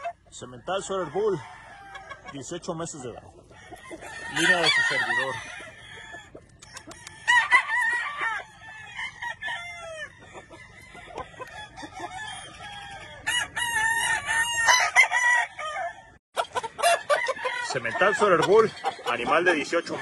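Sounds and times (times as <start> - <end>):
rooster clucks: 0.0 - 20.0
roosters crowing: 0.0 - 20.0.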